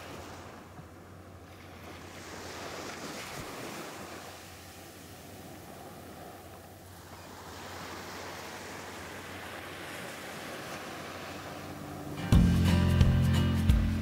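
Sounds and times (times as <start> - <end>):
surf washing over sand: 0.0 - 0.8, 1.4 - 12.3.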